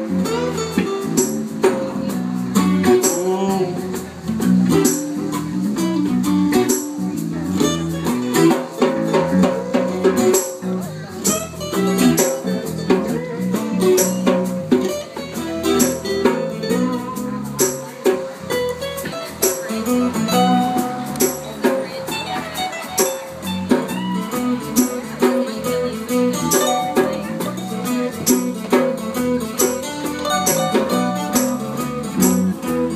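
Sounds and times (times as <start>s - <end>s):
acoustic guitars strumming: 0.0s - 32.9s.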